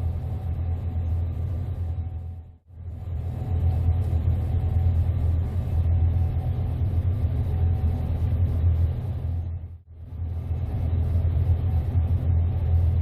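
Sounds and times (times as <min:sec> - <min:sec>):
combine harvester low rumble: 0:00.0 - 0:13.0.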